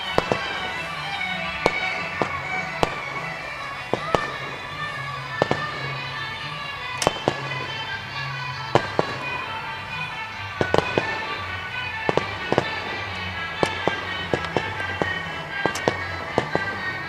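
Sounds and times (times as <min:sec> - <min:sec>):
fireworks bangs: 0:00.0 - 0:17.0
music playing: 0:00.0 - 0:17.0.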